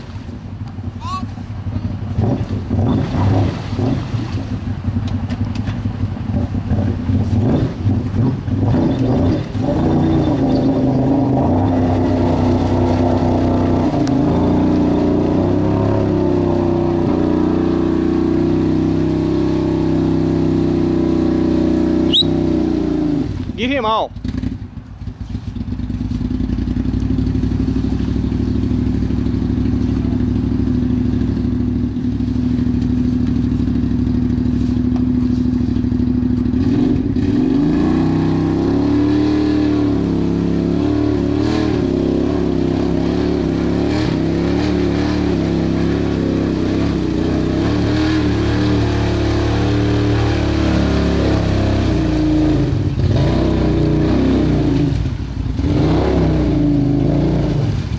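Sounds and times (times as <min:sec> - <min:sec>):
utility vehicle engine revving: 0:00.0 - 0:57.9.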